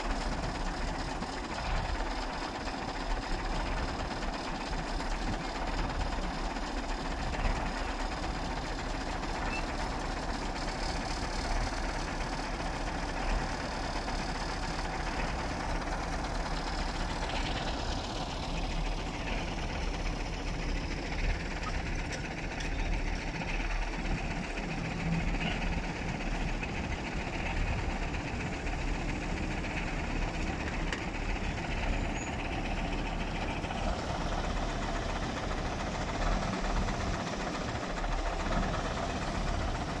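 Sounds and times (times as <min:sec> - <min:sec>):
heavy diesel engines running: 0:00.0 - 0:40.0.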